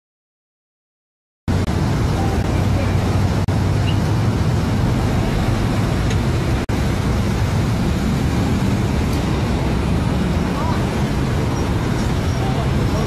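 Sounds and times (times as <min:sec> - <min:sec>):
vehicle engine and road noise: 0:01.5 - 0:13.0.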